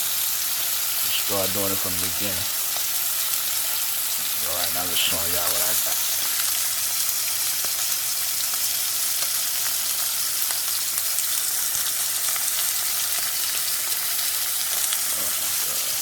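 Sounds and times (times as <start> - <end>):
steak sizzling in a skillet: 0.0 - 16.0
fat crackling and popping: 0.7 - 16.0.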